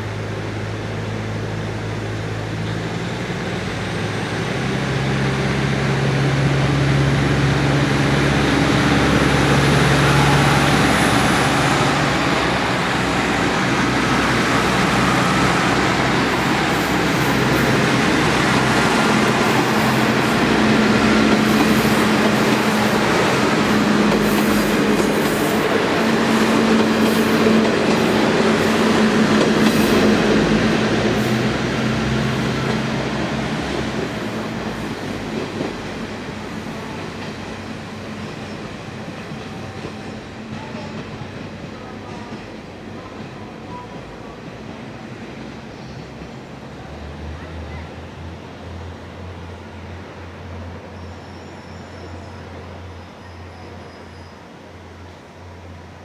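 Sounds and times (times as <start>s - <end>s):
diesel railcar engines: 0.0s - 56.0s.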